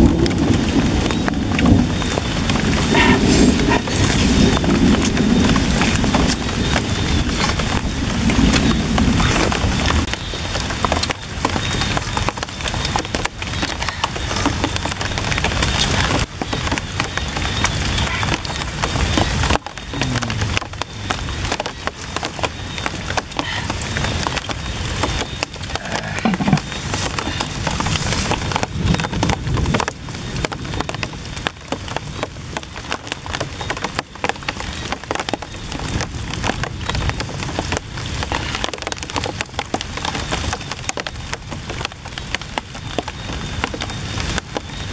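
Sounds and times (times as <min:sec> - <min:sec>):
rain pattering on leaves: 0:00.0 - 0:44.9.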